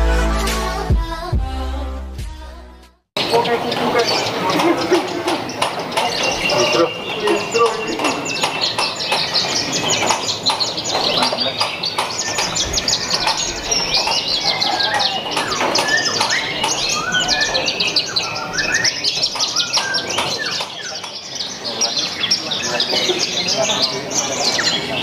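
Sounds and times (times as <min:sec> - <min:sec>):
larks singing: 0:03.2 - 0:25.0.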